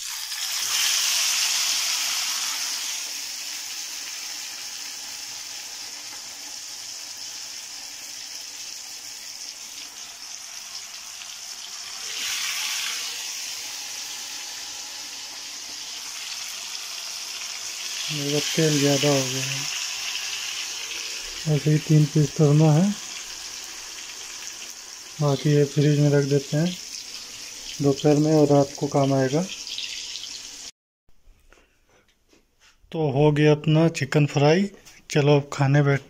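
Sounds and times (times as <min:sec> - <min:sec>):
chicken sizzling in hot oil: 0:00.0 - 0:30.7.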